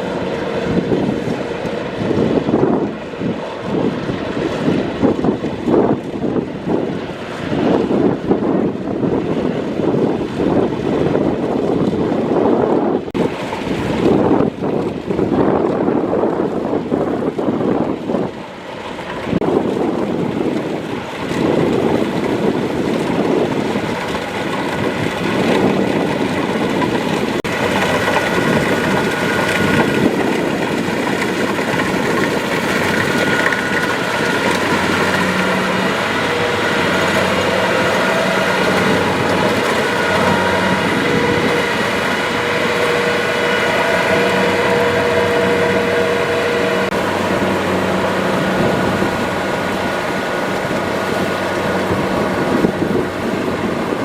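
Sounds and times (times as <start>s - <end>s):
combine harvester diesel engine: 0.0s - 54.0s
wind buffeting microphone: 0.0s - 54.0s.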